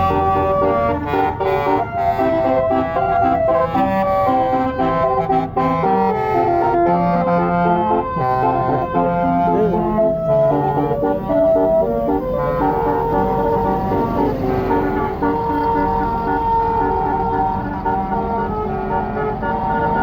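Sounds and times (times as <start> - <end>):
bus horn playing a tune: 0.0 - 20.0.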